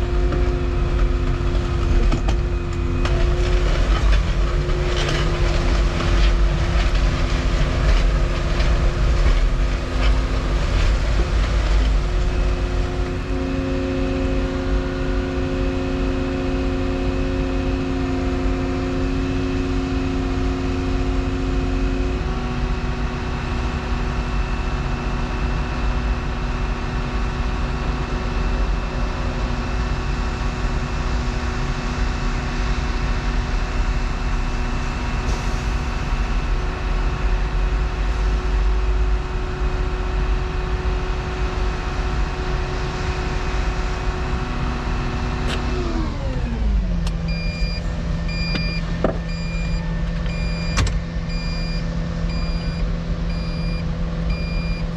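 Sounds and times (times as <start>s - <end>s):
excavator engine and hydraulics: 0.0s - 54.9s.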